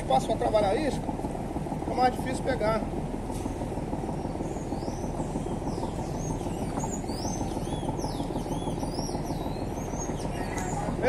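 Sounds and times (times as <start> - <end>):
low rumbling noise: 0.0 - 11.0.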